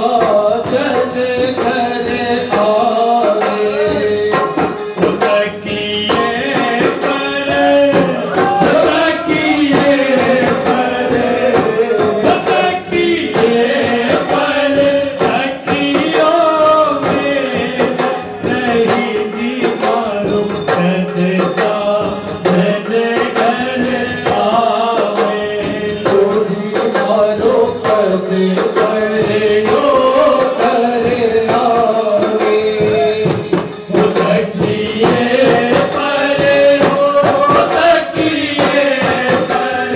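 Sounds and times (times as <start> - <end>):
jingling hand percussion: 0.0 - 39.9
voices singing chant-like melody: 0.0 - 39.9.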